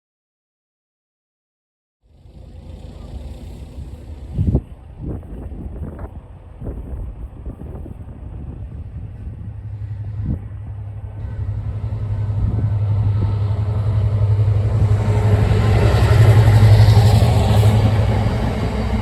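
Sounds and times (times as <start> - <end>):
diesel train engine hum: 2.1 - 19.0
wheel and rail noise: 2.1 - 19.0.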